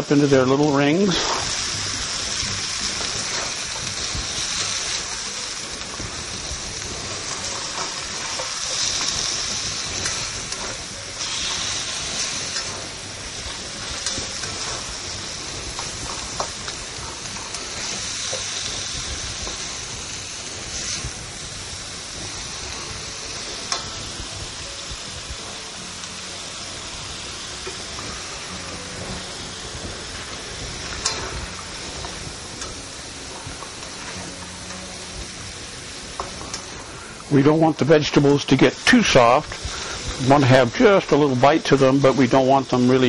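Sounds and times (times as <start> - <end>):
vegetables sizzling in hot oil: 0.0 - 43.0.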